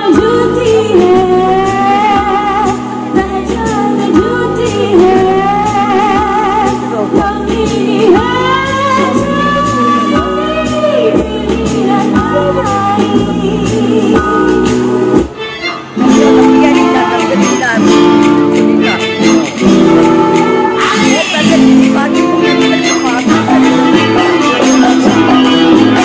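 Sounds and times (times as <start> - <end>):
person singing over a beat: 0.0 - 15.3, 16.0 - 26.0.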